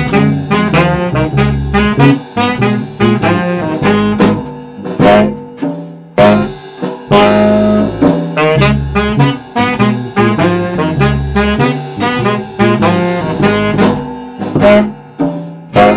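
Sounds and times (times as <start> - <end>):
saxophone playing bluesy lead: 0.0 - 5.4, 6.2 - 15.0
drum beat of short hits: 0.0 - 15.9
electric bass guitar: 0.0 - 15.9.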